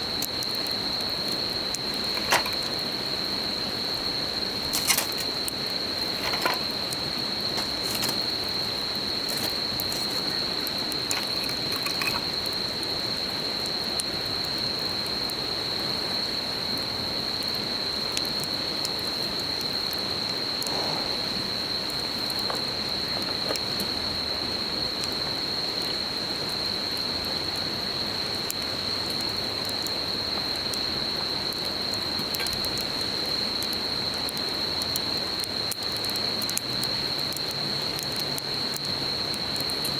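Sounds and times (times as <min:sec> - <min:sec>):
campfire crackling and popping: 0:00.0 - 0:39.9
insects trilling: 0:00.0 - 0:39.9.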